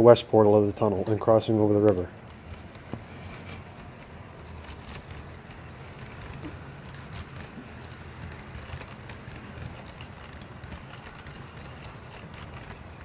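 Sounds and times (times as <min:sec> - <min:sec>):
model train rumbling: 0:00.0 - 0:13.0
wheels clicking over rail joints: 0:00.0 - 0:13.0.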